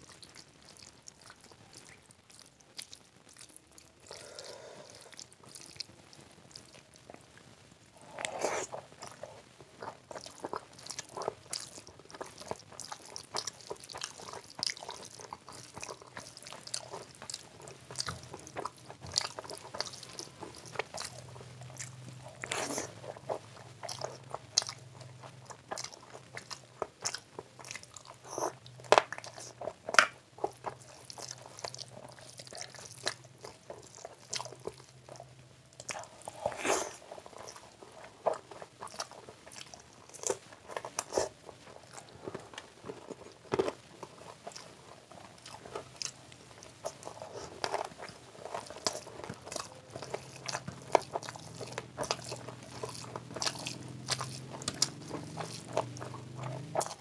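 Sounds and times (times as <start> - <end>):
wet chewing: 0.0 - 7.4, 8.0 - 57.0.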